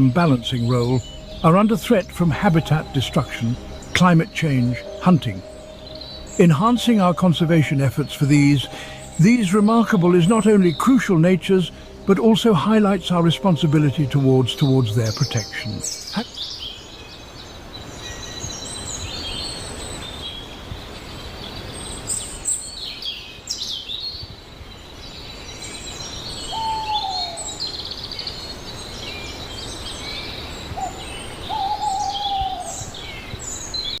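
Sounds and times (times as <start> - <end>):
birds chirping and trilling: 0.0 - 34.0.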